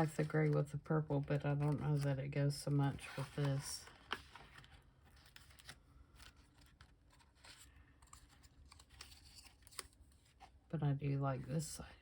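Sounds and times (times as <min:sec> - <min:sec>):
paper rustling and shuffling: 0:00.0 - 0:10.6.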